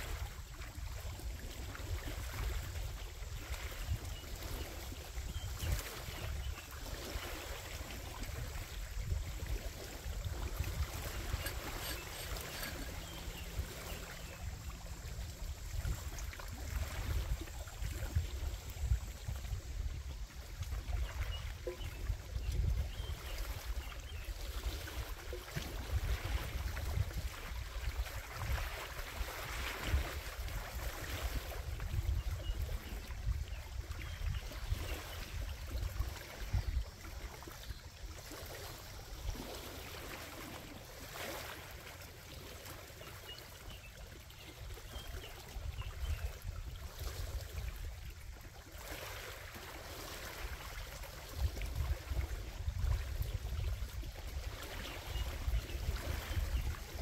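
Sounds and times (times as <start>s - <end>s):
small waves lapping on rocks: 0.0s - 19.6s, 20.3s - 57.0s
wind rumbling on microphone: 0.0s - 40.4s, 44.7s - 49.2s, 50.0s - 57.0s.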